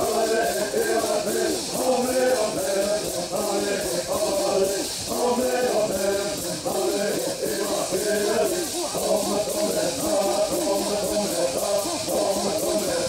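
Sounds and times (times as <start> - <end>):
gourd rattles shaking: 0.0 - 13.0
men chanting a song: 0.0 - 13.0.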